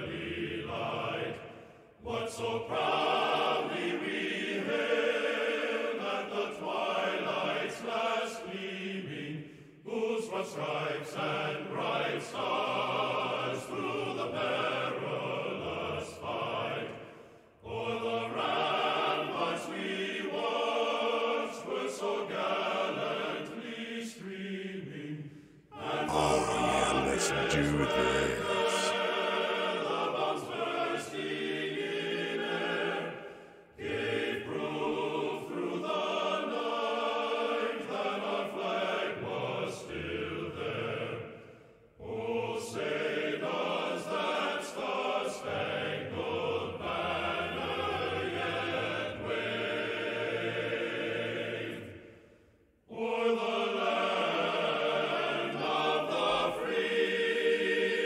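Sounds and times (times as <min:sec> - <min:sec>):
choir singing sustained notes: 0:00.0 - 0:58.0.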